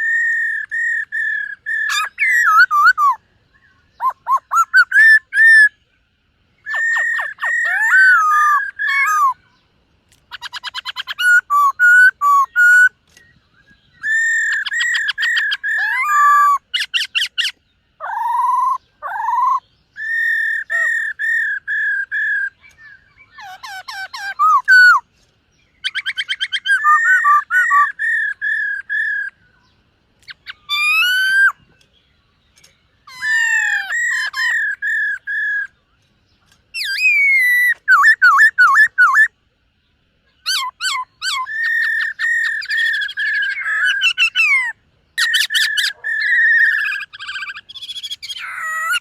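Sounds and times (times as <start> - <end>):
bird singing whistled phrases: 0.0 - 5.8, 6.6 - 9.6, 10.3 - 25.1, 25.7 - 29.7, 30.3 - 31.6, 32.6 - 35.8, 36.8 - 39.4, 40.4 - 49.0.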